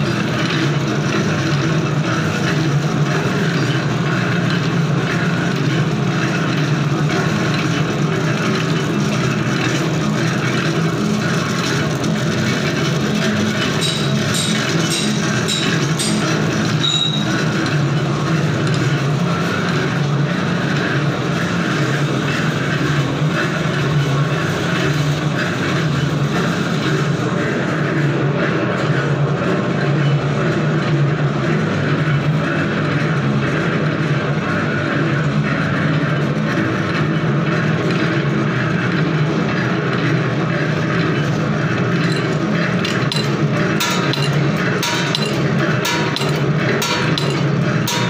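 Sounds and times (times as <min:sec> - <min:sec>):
thread rolling machine humming: 0:00.0 - 0:48.0.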